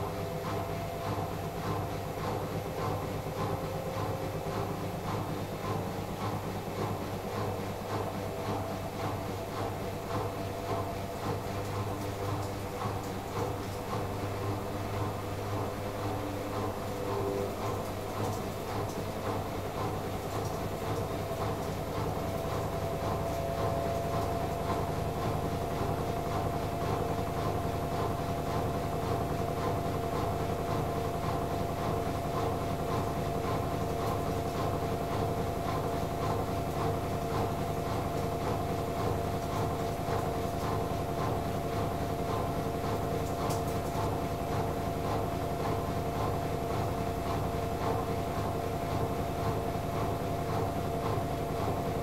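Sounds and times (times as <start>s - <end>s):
washing machine spinning: 0.0s - 52.0s.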